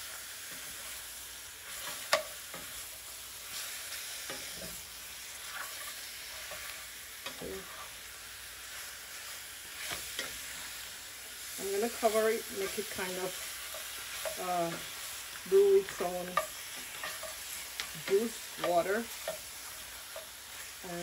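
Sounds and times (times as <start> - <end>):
meat sizzling in oil: 0.0 - 21.0.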